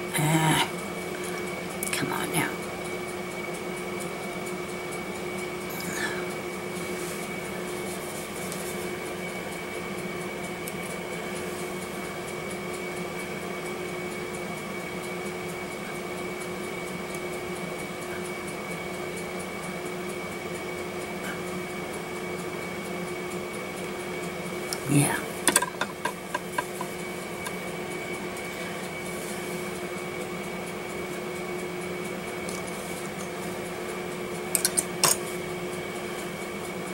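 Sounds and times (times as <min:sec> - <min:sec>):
room appliance humming: 0:00.0 - 0:36.9.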